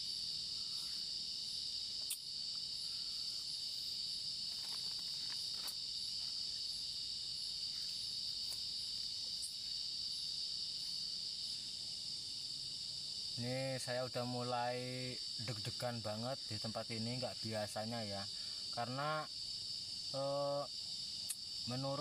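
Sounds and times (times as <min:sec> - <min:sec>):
crickets and night insects: 0:00.0 - 0:22.0.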